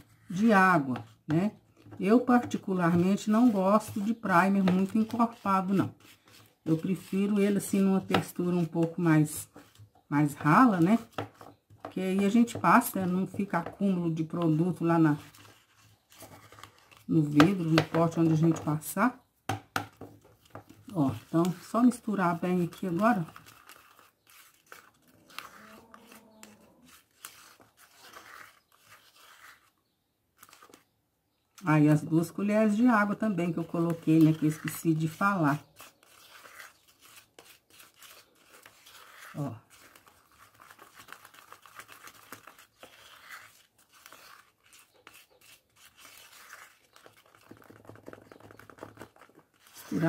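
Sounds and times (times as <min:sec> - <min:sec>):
metal spoon scraping plastic cup: 0:00.0 - 0:19.1, 0:19.9 - 0:29.8, 0:30.4 - 0:30.9, 0:32.5 - 0:50.0.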